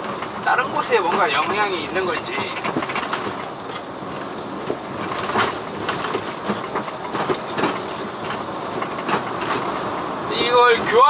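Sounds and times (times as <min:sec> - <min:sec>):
clattering rattles: 0:00.0 - 0:10.1
truck engine and road noise: 0:00.0 - 0:11.0.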